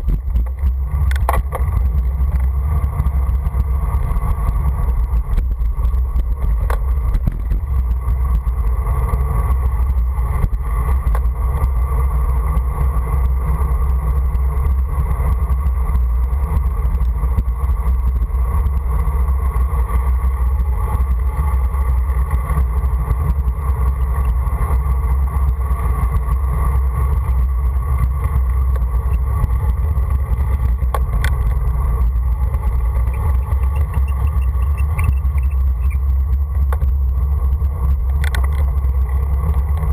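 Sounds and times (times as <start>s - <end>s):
tyre and road noise: 0.0s - 39.9s
wind rumble on microphone: 0.0s - 39.9s.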